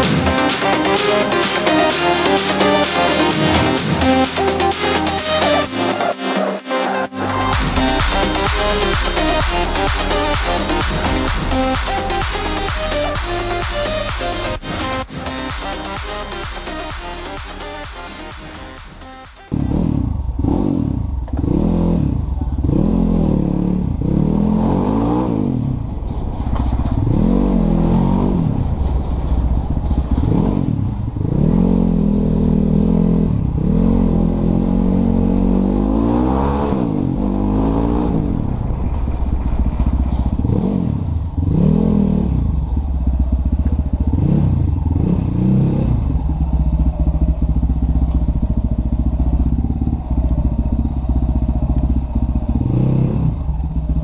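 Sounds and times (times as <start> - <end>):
motorcycle engine revving: 0.0 - 6.0, 7.1 - 54.0.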